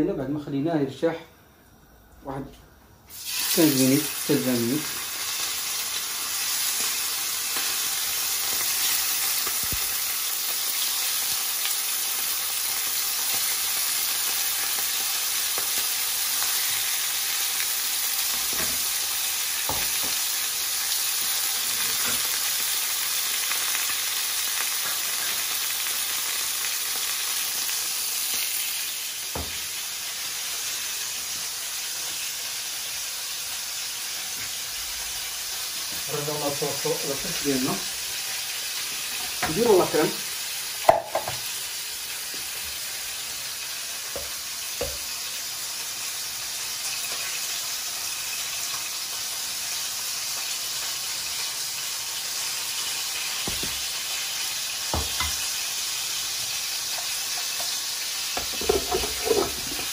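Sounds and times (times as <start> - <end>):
chicken sizzling in hot oil: 3.1 - 59.9.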